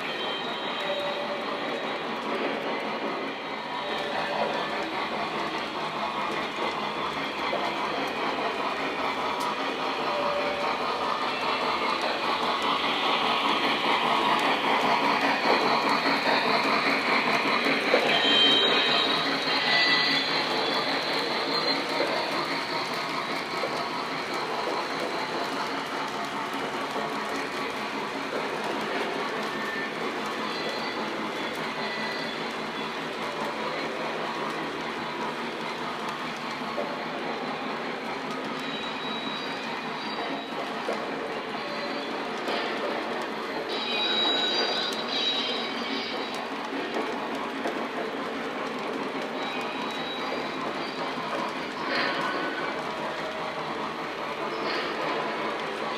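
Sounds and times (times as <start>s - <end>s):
model train running on track: 0.0s - 55.9s.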